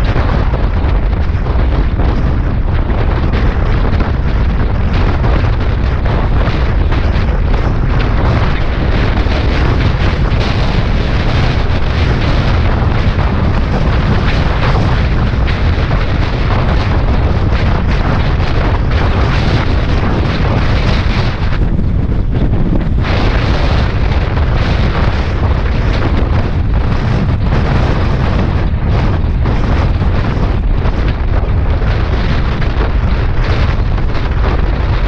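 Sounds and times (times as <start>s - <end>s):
motorcycle engine rumble: 0.0s - 35.0s
wind buffeting microphone: 0.0s - 35.0s.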